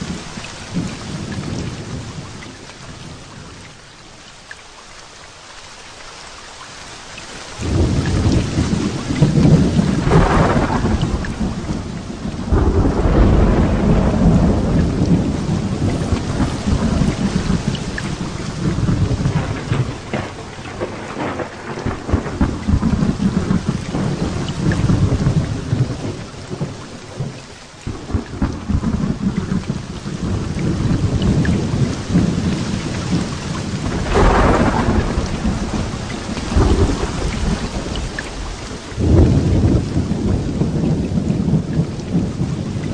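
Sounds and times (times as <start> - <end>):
heavy rain falling: 0.0 - 42.9
thunder rolling: 7.6 - 42.9.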